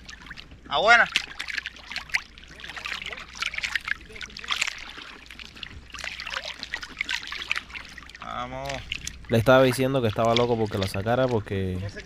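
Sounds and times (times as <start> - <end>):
seawater lapping and splashing: 0.0 - 12.0.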